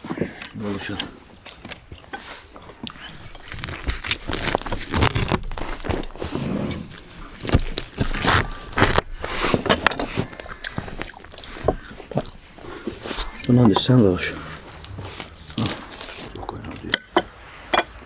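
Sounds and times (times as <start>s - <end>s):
irregular crunches: 0.0s - 17.2s.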